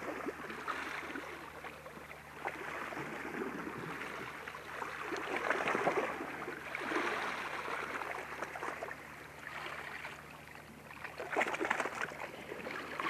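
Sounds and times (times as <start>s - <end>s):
waves lapping against rocks: 0.0s - 13.0s.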